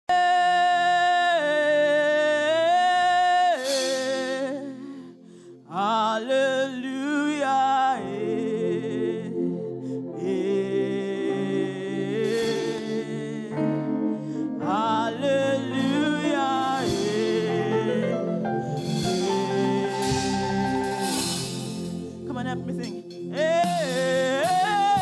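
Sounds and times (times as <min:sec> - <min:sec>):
wavering lead voice singing: 0:00.1 - 0:25.0
gospel choir singing: 0:00.2 - 0:25.0.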